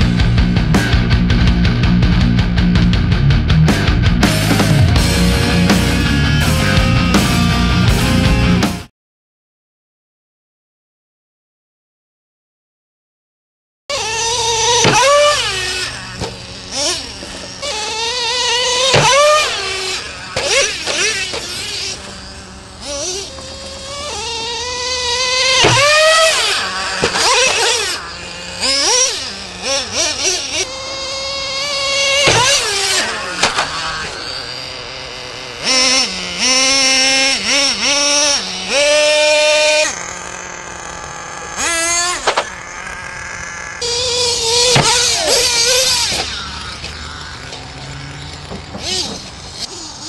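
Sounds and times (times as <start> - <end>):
model truck engine revving: 0.0 - 8.9, 13.9 - 50.0.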